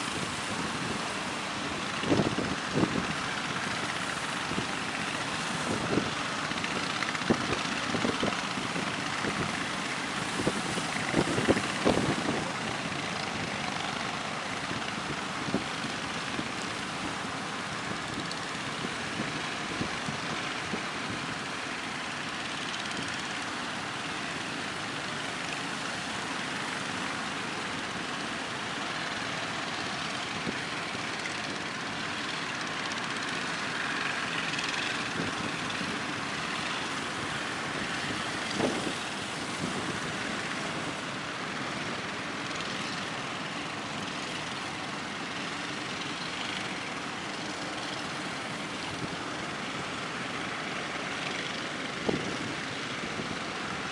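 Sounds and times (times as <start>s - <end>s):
fishing boat engines running: 0.0s - 53.9s
wind: 0.0s - 53.9s.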